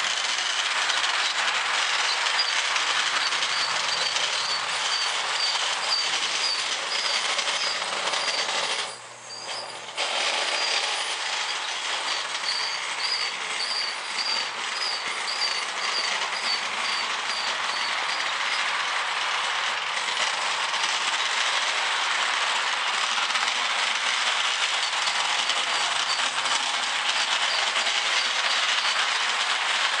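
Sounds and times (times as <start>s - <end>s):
model train wheels rumbling on rails: 0.0s - 30.0s.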